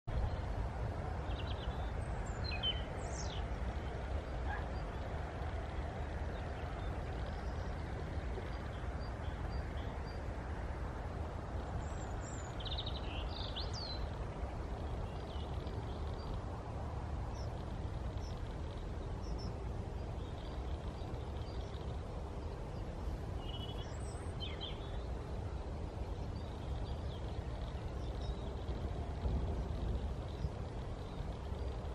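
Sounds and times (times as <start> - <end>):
steady low rumble: 0.1 - 31.9.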